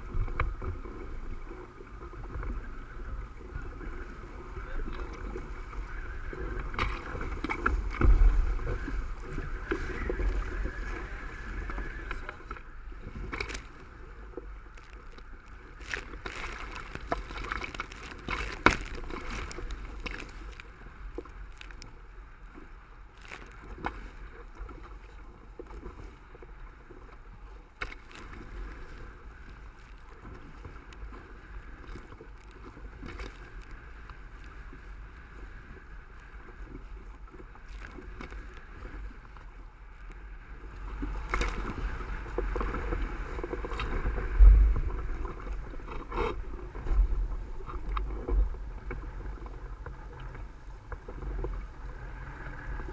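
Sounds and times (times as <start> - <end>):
water rushing along hull: 0.0 - 52.9
waves slapping hull: 0.0 - 52.9.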